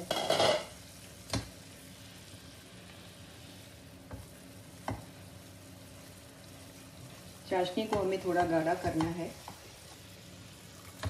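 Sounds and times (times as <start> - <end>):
syrup boiling with bubbling hiss: 0.0 - 11.0.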